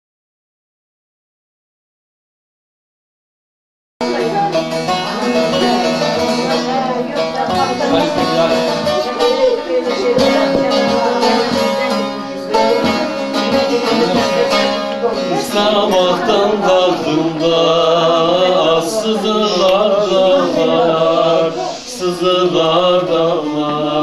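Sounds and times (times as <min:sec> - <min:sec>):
long-necked lutes plucked and strummed: 0:04.0 - 0:24.0.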